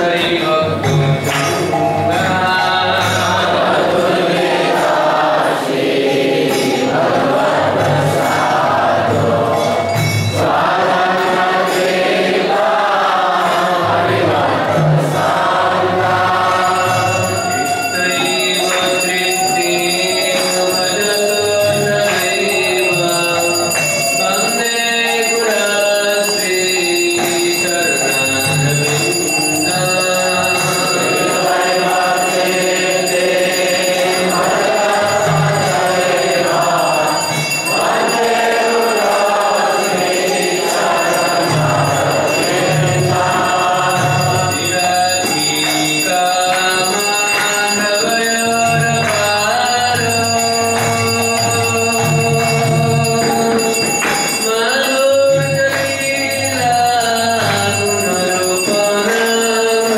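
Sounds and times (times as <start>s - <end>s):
group chanting a hymn: 0.0s - 59.9s
high steady ringing tones: 6.4s - 14.1s, 15.0s - 59.9s.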